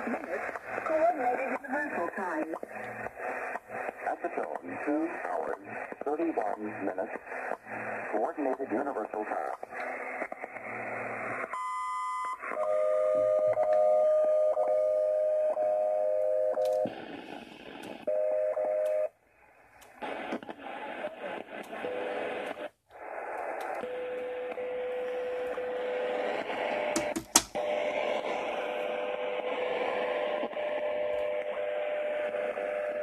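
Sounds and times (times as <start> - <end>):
radio static hiss: 0.0 - 11.6, 16.6 - 33.0.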